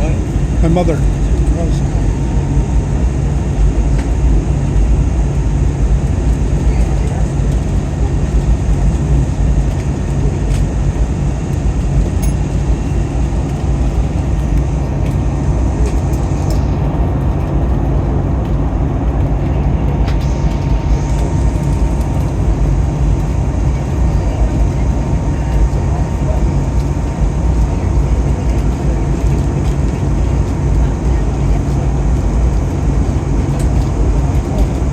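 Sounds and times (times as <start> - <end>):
aircraft cabin engine rumble: 0.0 - 34.9.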